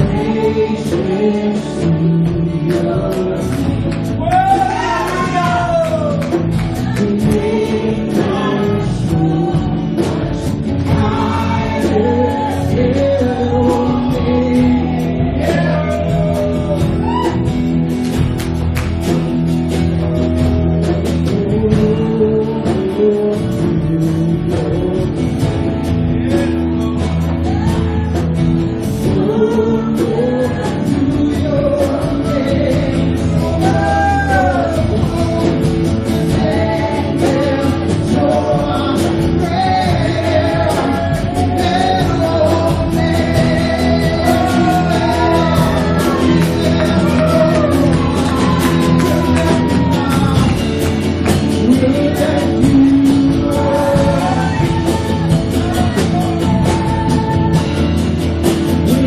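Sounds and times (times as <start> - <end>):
people singing: 0.0 - 18.3, 19.0 - 59.0
band playing worship music: 0.0 - 59.0.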